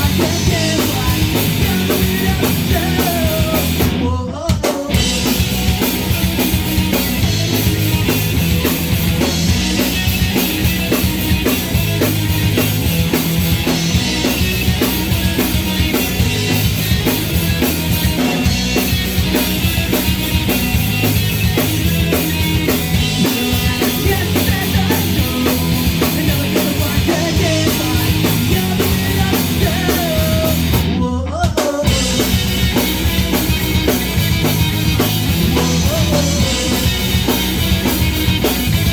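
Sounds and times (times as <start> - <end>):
drum kit beat: 0.0 - 38.9
punk rock band playing: 0.0 - 38.9.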